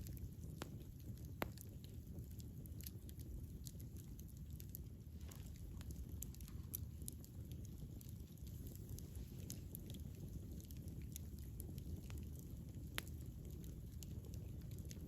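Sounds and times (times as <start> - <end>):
low rush of fire: 0.0 - 15.0
wood fire crackling: 0.0 - 15.0.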